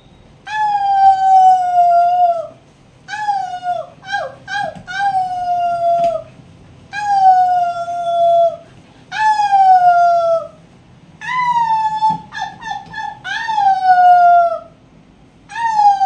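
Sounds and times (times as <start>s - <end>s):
dog howling: 0.5s - 6.3s, 6.9s - 10.6s, 11.2s - 14.8s, 15.5s - 16.0s
woman howling: 0.5s - 6.3s, 6.9s - 10.6s, 11.2s - 14.8s, 15.5s - 16.0s.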